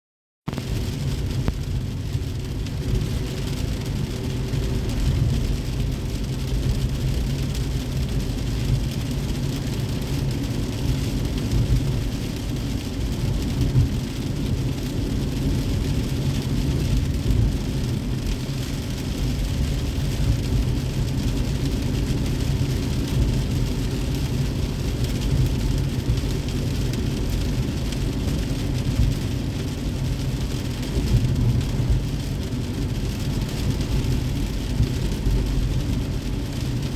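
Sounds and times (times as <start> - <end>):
road and tyre noise: 0.5 - 36.9
rain hissing: 0.6 - 36.9.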